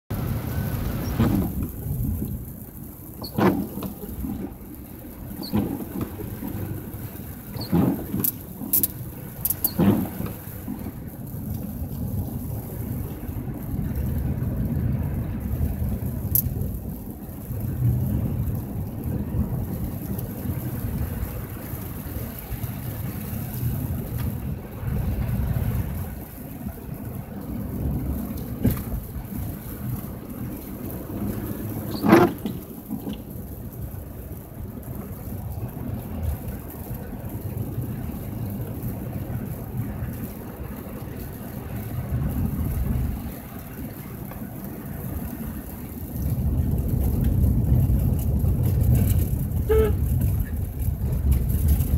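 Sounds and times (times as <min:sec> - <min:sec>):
car engine and road rumble: 0:00.0 - 0:51.9.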